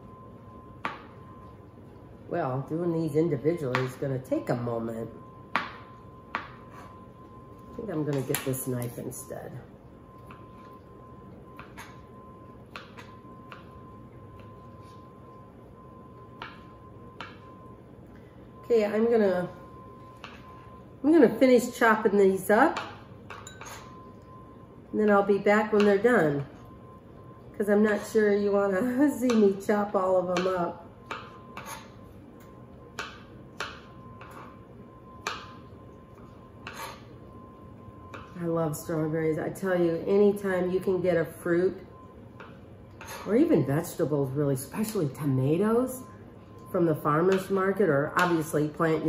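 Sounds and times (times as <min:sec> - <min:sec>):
faint high hum: 0:00.0 - 0:49.0.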